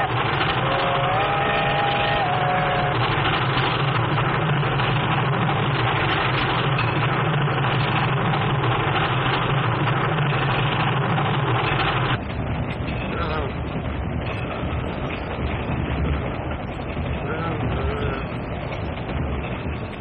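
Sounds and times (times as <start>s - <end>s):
steam locomotive rumbling: 0.0s - 20.0s.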